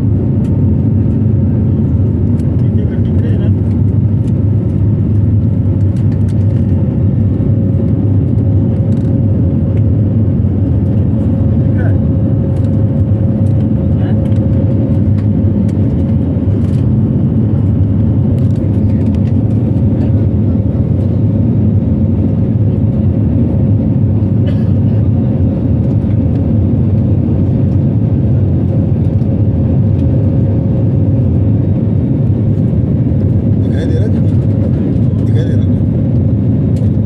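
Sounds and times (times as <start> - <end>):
airliner engine rumble: 0.0 - 37.0.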